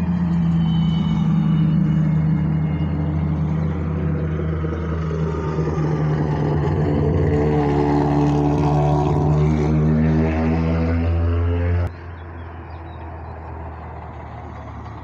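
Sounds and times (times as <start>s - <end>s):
car engine accelerating: 0.0s - 15.0s
race car engines at full throttle: 0.0s - 15.0s.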